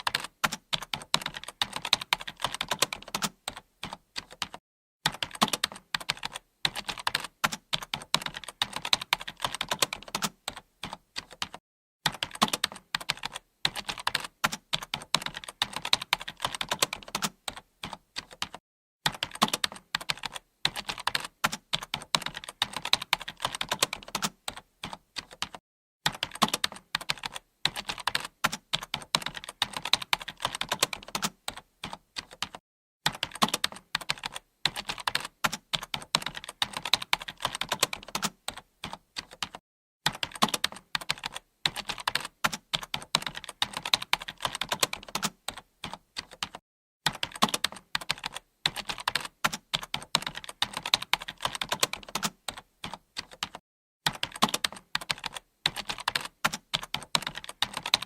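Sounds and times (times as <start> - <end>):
computer keyboard typing: 0.0 - 58.0.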